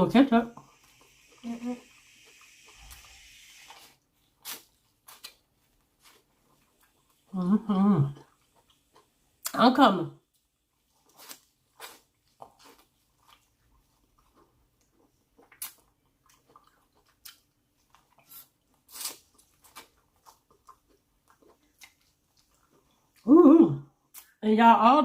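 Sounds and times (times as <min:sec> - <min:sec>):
person chewing food: 0:00.5 - 0:09.6, 0:10.3 - 0:23.3.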